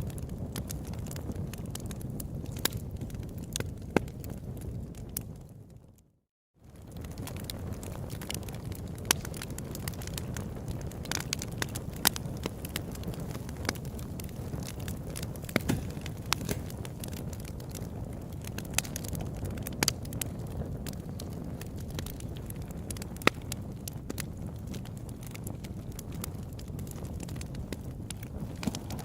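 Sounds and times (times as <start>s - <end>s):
campfire crackling and popping: 0.0s - 6.0s, 6.6s - 29.0s.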